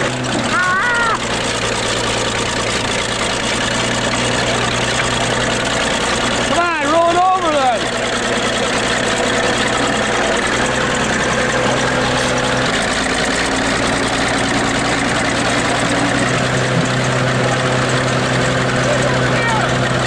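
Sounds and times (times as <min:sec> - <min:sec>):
bulldozer engine under load: 0:00.0 - 0:20.0.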